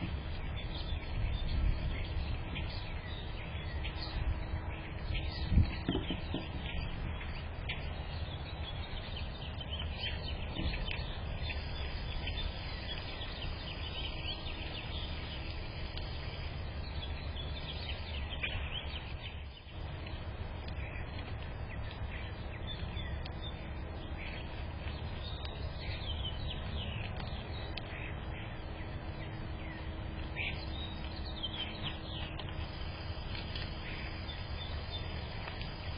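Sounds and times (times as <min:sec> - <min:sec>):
low background rumble: 0:00.0 - 0:35.9
songbirds chirping and twittering: 0:00.0 - 0:35.9.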